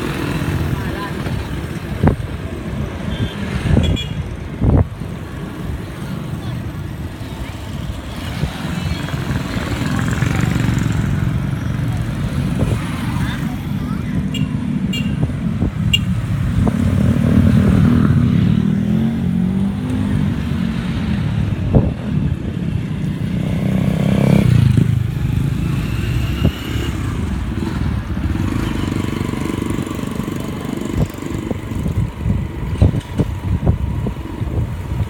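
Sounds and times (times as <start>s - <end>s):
motorcycles passing: 0.0s - 35.0s.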